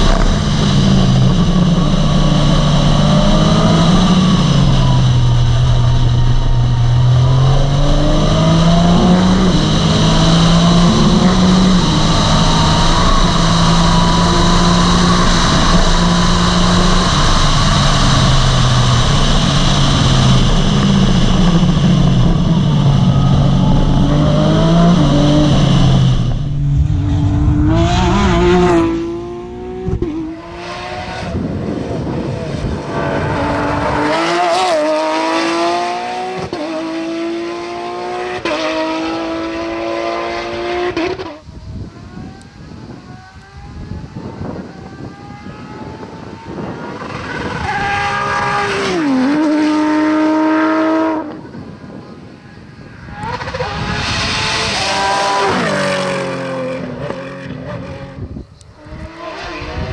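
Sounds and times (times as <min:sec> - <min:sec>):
race car engine at high revs: 0:00.0 - 0:41.5, 0:42.1 - 0:51.6, 0:53.1 - 0:59.9.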